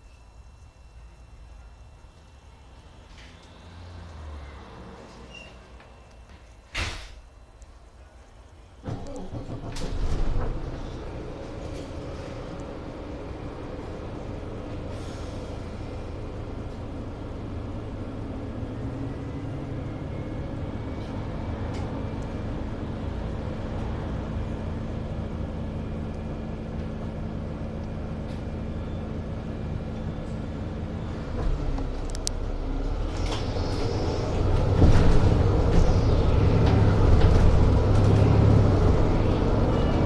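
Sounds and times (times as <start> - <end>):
bus engine hum: 0.0 - 40.0.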